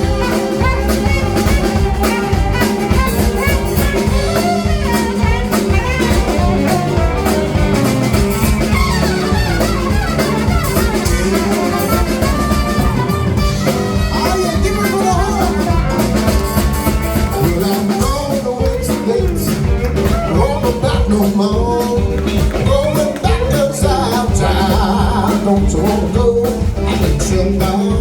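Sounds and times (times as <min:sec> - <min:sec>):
horns: 0:00.0 - 0:27.9
drum kit beat: 0:00.0 - 0:28.0
guitar: 0:00.0 - 0:28.0.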